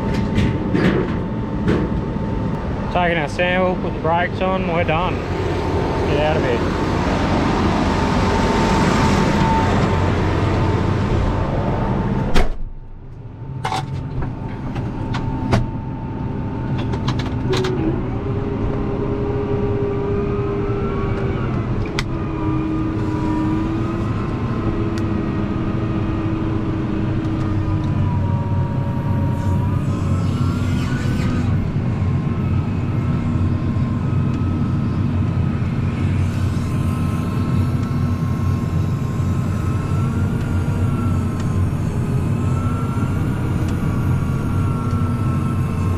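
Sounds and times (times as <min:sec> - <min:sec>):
farm machinery engine running: 0:00.0 - 0:45.9.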